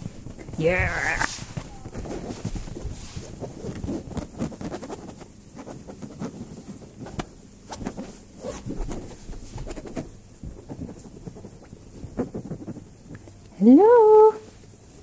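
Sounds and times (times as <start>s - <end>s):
scrabbling on fabric couch: 0.0s - 5.2s, 5.9s - 12.8s.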